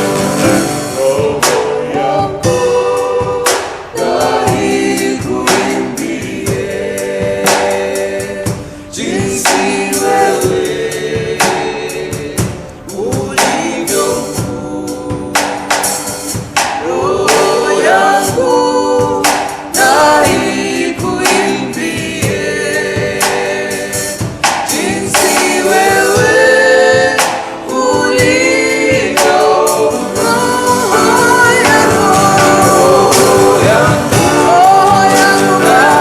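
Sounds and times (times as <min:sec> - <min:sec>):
group singing gospel song: 0:00.0 - 0:36.0
instrumental backing: 0:00.0 - 0:36.0
percussion hits: 0:00.0 - 0:36.0.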